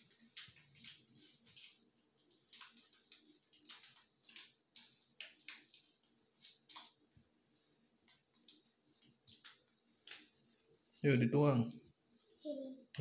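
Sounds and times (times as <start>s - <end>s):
plastic sachet crinkling: 0.0s - 10.6s.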